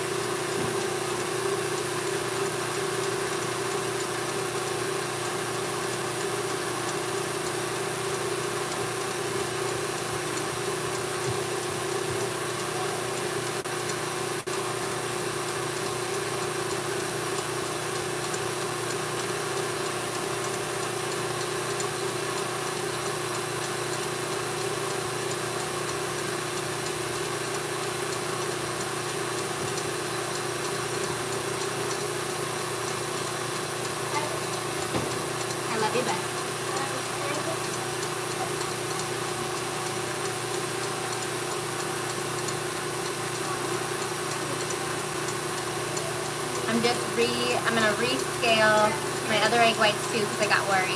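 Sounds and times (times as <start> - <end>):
stand mixer motor humming: 0.0 - 50.9.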